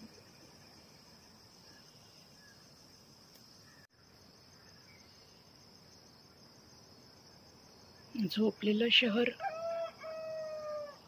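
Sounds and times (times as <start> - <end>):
background hiss: 0.0 - 11.0
crickets chirring: 0.0 - 11.0.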